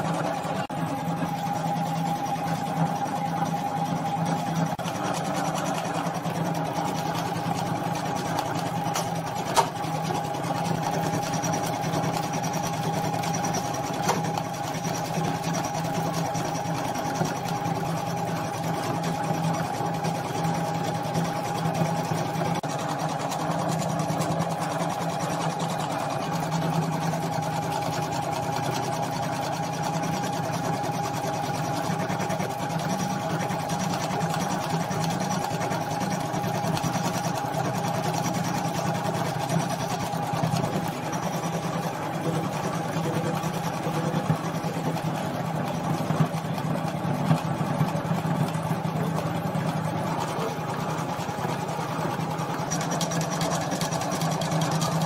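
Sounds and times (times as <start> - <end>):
embroidery machine humming: 0.0 - 55.0.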